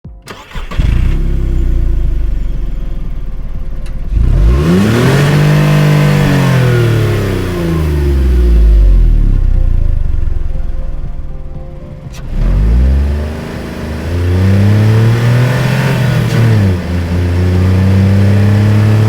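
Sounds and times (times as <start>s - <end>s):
car engine revving: 0.3s - 19.0s.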